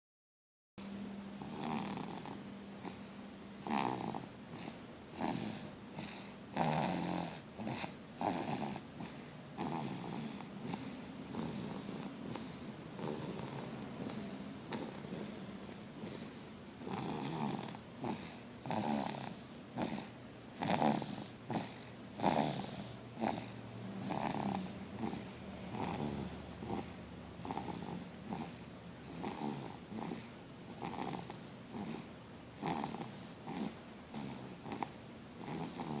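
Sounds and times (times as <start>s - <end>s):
pet snoring: 1.4s - 36.0s.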